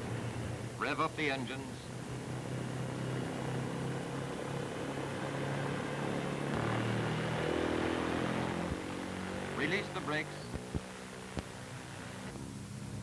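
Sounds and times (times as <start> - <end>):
twin aircraft engines running up: 0.0 - 13.0.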